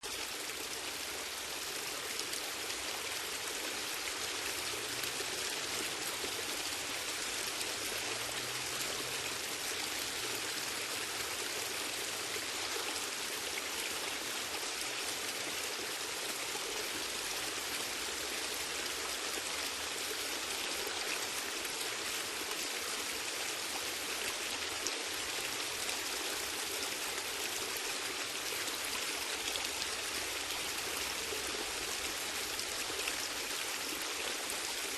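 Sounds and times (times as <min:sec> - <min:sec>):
gentle rain falling: 0:00.0 - 0:34.9.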